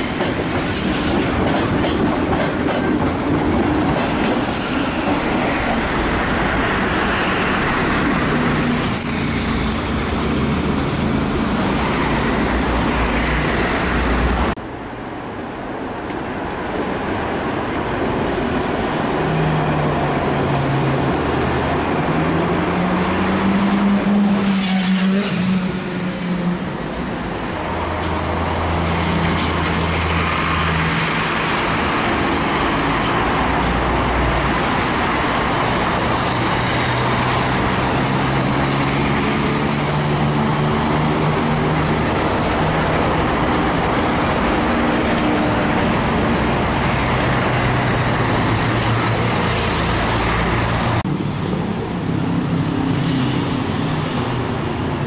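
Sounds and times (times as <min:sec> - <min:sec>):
heavy road traffic: 0:00.0 - 0:55.0.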